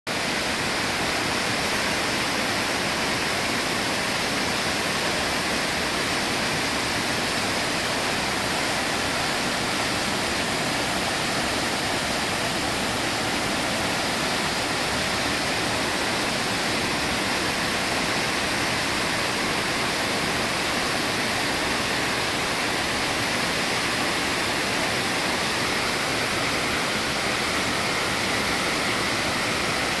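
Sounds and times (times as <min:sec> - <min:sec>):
waterfall rushing onto rock: 0:00.1 - 0:30.0.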